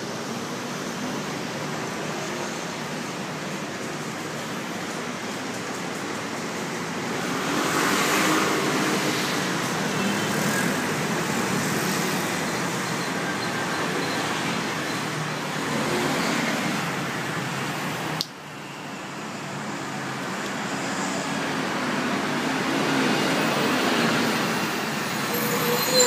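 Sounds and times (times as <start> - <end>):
busy street traffic hum: 0.0 - 26.0.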